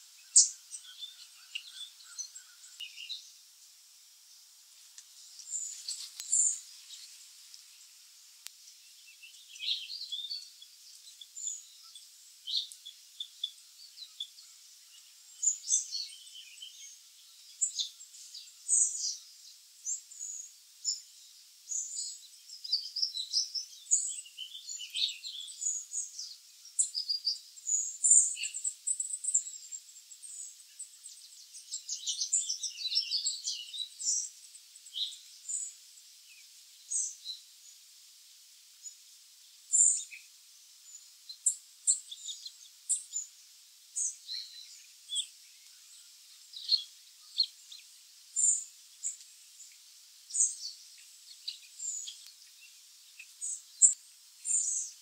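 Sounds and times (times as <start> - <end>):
birds chirping and twittering: 0.0 - 37.9, 38.8 - 55.0.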